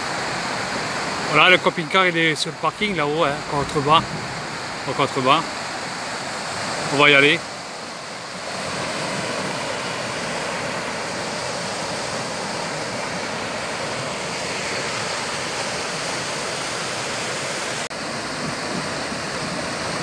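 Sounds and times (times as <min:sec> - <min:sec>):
river rushing over rocks: 0:00.0 - 0:20.0.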